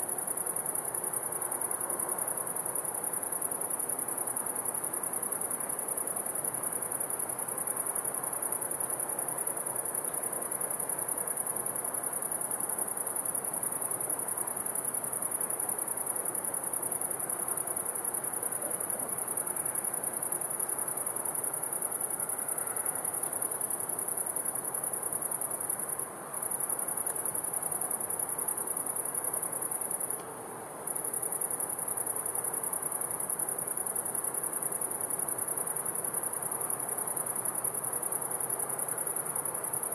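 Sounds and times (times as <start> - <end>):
crickets chirring: 0.2 - 30.2, 30.9 - 39.9.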